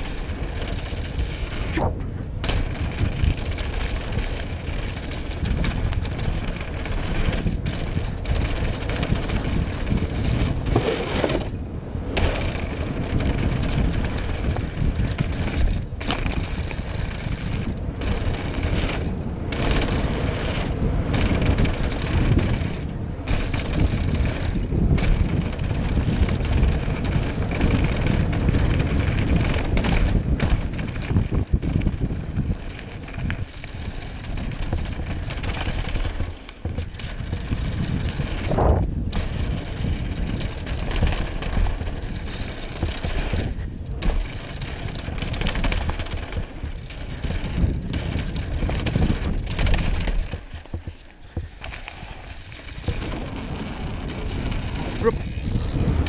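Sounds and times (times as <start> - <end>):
bike rattling over bumps: 0.0 - 56.0
bike tyres rumbling over dirt: 0.0 - 56.0
wind on microphone: 0.0 - 56.0.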